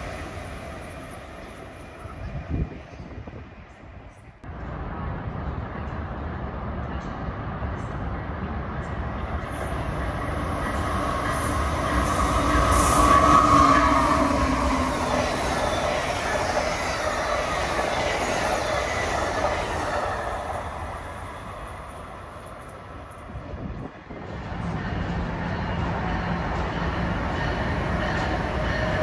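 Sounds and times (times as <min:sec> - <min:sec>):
passenger train passing: 0:00.0 - 0:29.0.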